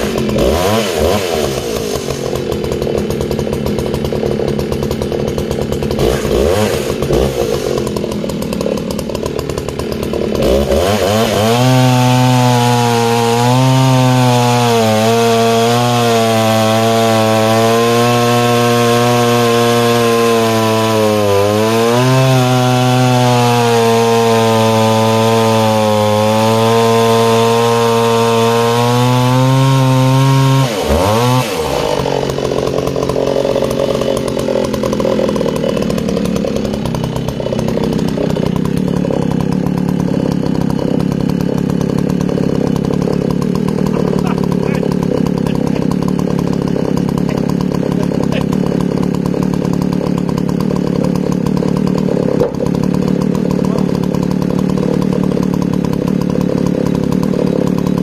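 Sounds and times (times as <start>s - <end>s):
chainsaw cutting through log: 0.0s - 58.0s.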